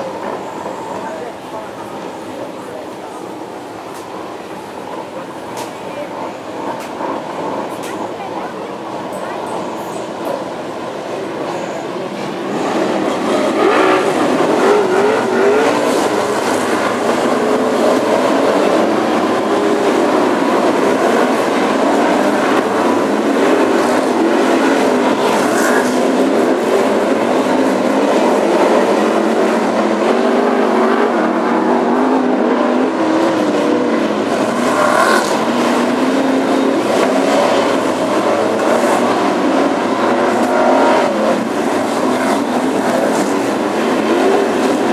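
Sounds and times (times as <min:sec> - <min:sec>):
racing car engines revving: 0:09.0 - 0:44.9.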